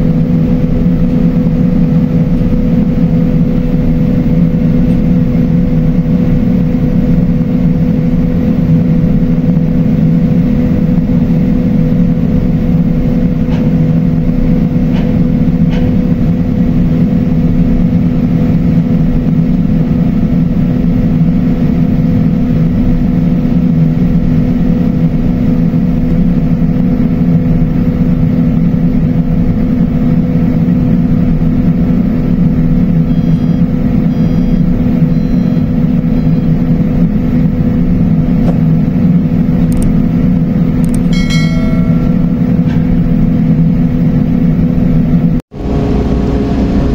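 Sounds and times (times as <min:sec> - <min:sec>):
heavy engine droning: 0:00.0 - 0:46.9.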